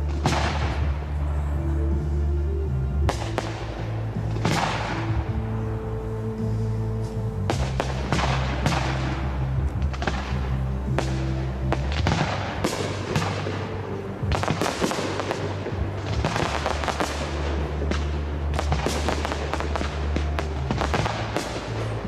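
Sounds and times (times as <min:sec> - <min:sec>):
fireworks bursting and crackling: 0:00.0 - 0:22.0
music with low notes: 0:00.0 - 0:22.0.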